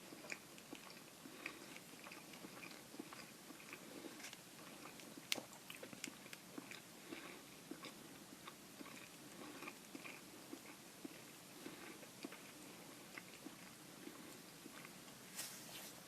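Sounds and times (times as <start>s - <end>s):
chewing noodle soup: 0.0s - 15.2s.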